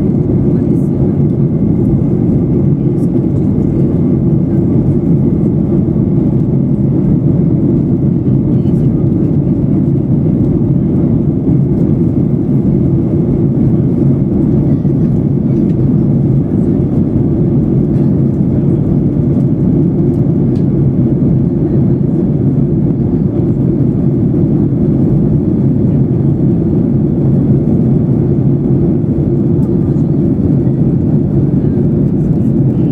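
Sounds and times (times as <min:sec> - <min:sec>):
airflow over fuselage: 0:00.0 - 0:32.9
jet engine cabin rumble: 0:00.0 - 0:32.9.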